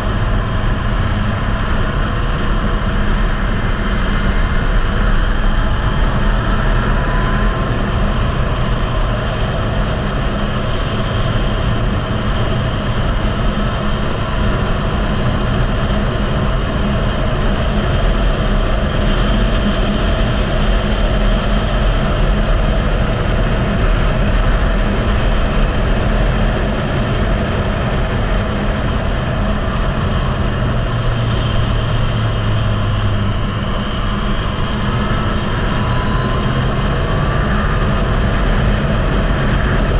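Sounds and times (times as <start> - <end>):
motorcycle engine running hard: 0.0 - 39.9
wind noise on microphone: 0.0 - 39.9.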